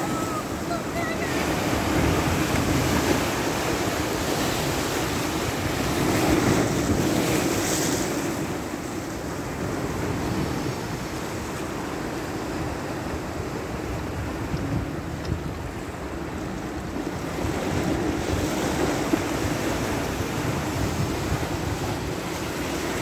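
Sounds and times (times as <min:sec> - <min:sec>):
sea waves breaking on rocks: 0:00.0 - 0:23.0.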